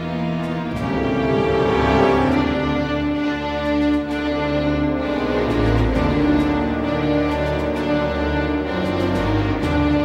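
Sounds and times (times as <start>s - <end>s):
orchestral score music: 0.0s - 10.0s.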